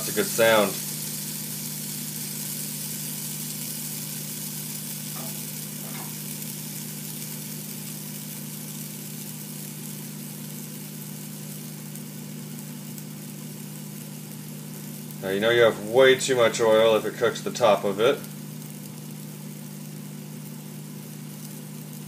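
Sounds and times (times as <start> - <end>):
pancake batter sizzling in a pan: 0.0 - 22.0.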